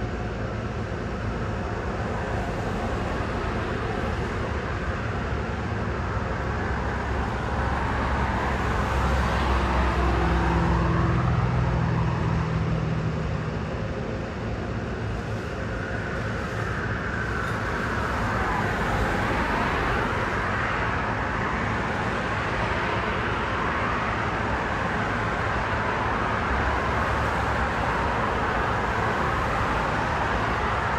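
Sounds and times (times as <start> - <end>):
engine low hum: 0.0 - 30.9
vehicles passing: 1.0 - 30.9.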